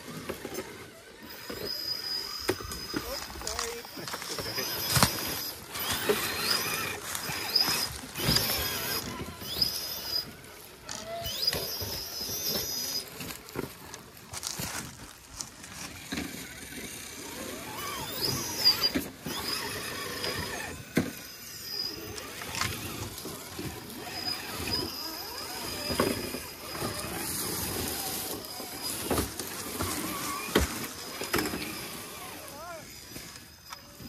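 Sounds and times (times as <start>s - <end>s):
small electric motors whining: 0.0s - 34.0s.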